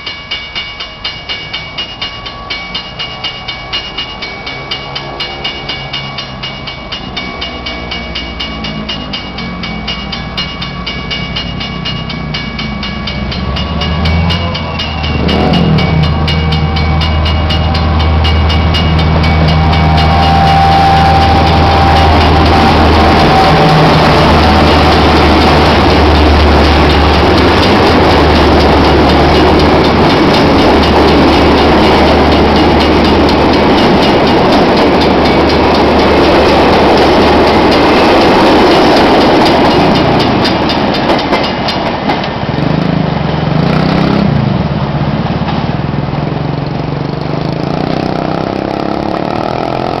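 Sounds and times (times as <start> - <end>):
train wheels clicking over rail joints: 0.0 - 45.8
diesel locomotive engine under load: 0.0 - 50.0.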